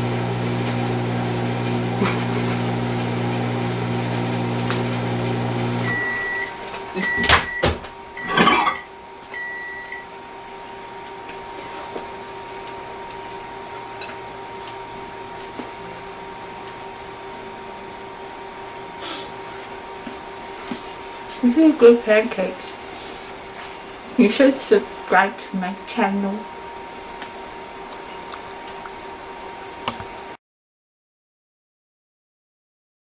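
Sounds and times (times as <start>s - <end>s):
microwave oven humming: 0.0s - 30.4s.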